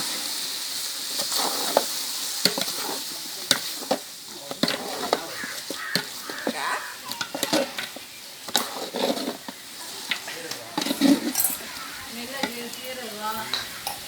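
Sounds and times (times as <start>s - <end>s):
frying sizzle: 0.0s - 14.0s
ladle scraping cooking pot: 1.2s - 14.0s.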